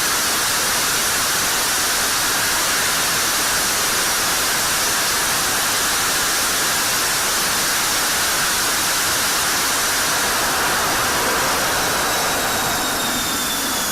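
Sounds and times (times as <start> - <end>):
jet engine running: 0.0 - 13.9.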